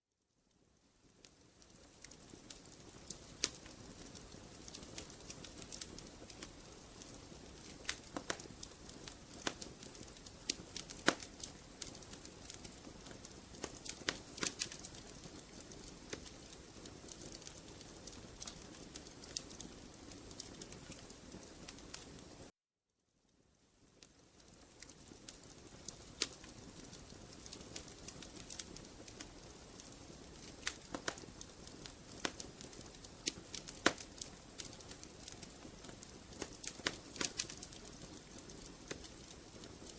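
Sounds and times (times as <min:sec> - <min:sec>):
soft steady hiss: 0:00.2 - 0:22.5, 0:23.1 - 0:39.9
wood fire crackling: 0:00.5 - 0:22.5, 0:23.3 - 0:39.9.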